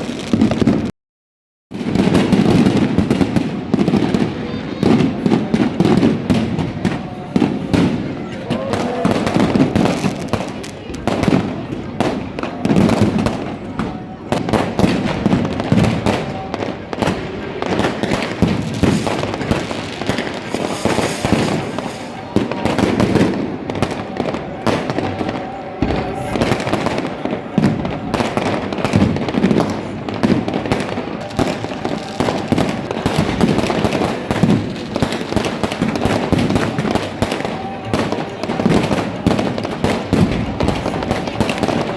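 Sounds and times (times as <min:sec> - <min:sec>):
fireworks and firecrackers banging: 0:00.0 - 0:00.9, 0:01.7 - 0:41.9.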